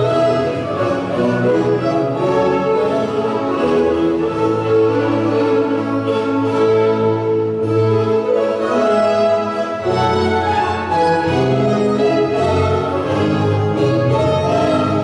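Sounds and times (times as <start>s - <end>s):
baroque string music: 0.0s - 15.0s.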